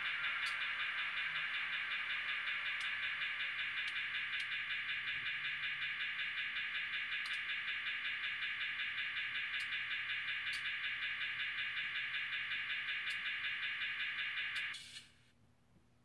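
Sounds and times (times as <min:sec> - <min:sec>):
tinny diesel engine idling sound: 0:00.0 - 0:15.0.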